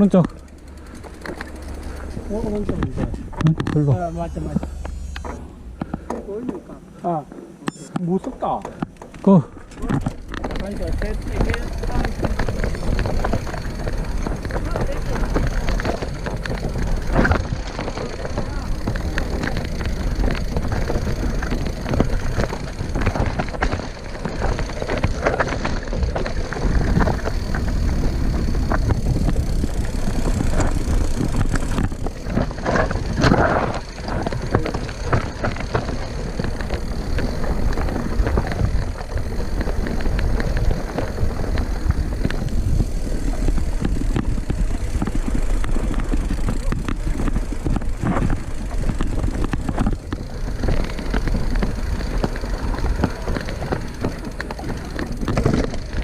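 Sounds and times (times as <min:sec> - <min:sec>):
bike chain and frame rattling: 0:00.0 - 0:06.6, 0:08.2 - 0:56.0
steady low rumble: 0:00.0 - 0:07.7, 0:09.5 - 0:56.0
bike tyres on dirt and rock: 0:00.0 - 0:56.0.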